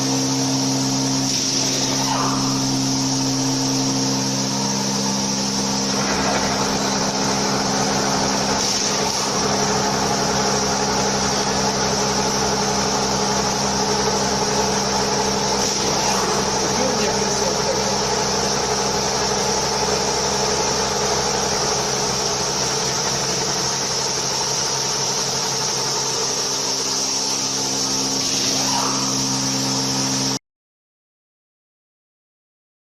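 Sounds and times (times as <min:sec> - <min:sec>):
milling machine hum and whine: 0:00.0 - 0:30.4.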